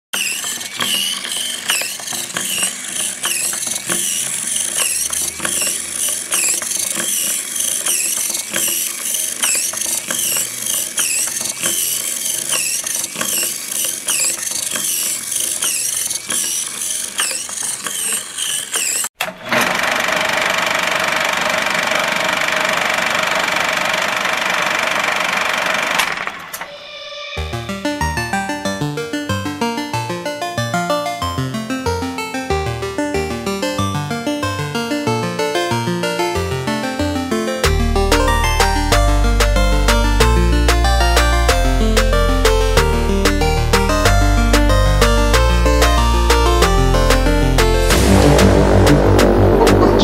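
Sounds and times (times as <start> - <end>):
electric gear motors whining: 0.1 - 28.8, 37.6 - 50.0.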